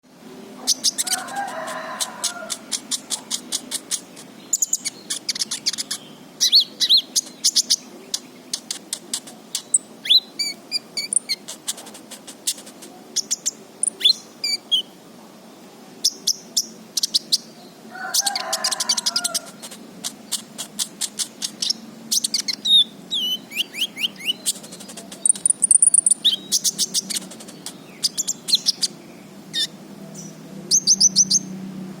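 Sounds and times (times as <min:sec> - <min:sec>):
bird chirping and trilling: 0:00.6 - 0:14.9, 0:16.0 - 0:31.6.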